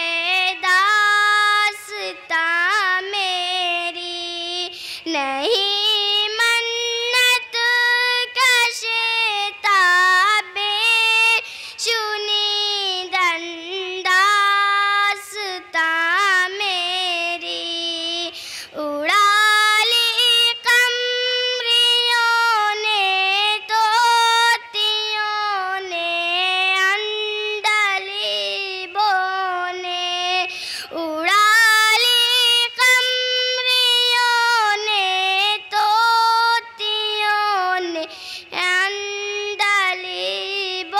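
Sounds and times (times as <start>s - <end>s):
girl singing unaccompanied: 0.0s - 40.9s.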